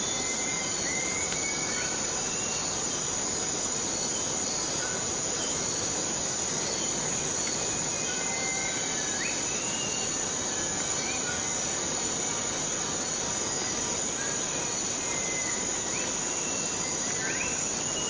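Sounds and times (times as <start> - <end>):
high-pitched insect drone: 0.0 - 18.0
steady rain falling: 0.0 - 18.0.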